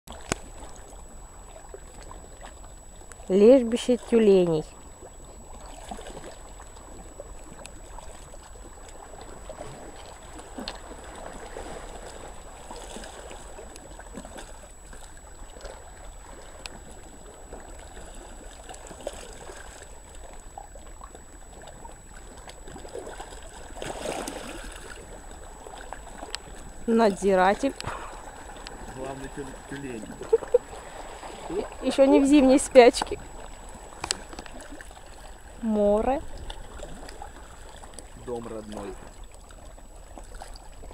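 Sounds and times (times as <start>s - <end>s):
waves lapping on pebbles: 0.1s - 40.9s.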